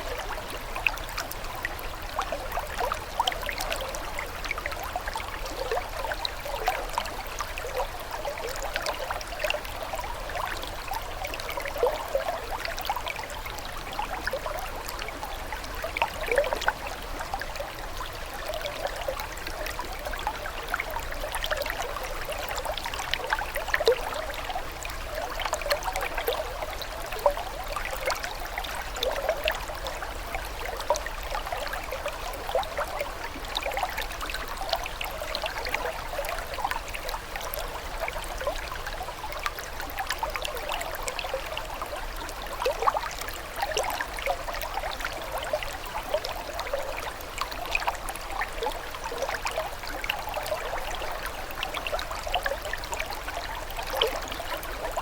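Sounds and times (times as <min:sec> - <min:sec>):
water trickling and gurgling: 0:00.0 - 0:55.0.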